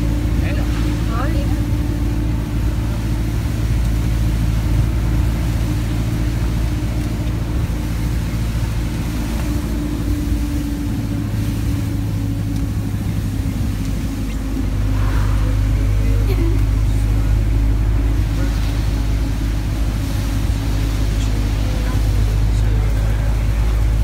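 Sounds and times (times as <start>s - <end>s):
vehicle engine drone: 0.0s - 24.0s
wind and road noise: 0.0s - 24.0s.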